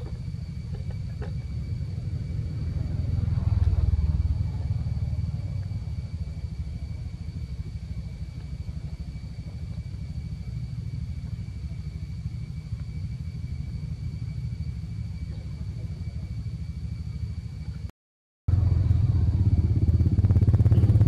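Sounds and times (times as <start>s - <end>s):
faint high whine: 0.0s - 17.9s, 18.5s - 21.0s.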